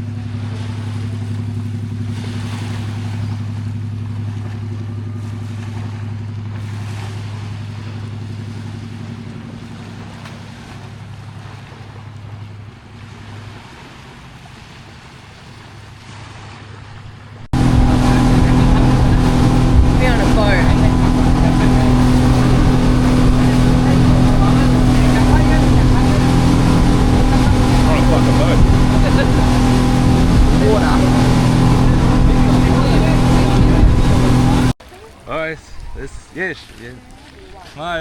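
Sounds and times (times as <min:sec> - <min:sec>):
motorboat engine humming: 0:00.0 - 0:38.0
water noise: 0:00.0 - 0:38.0
wind: 0:00.0 - 0:38.0.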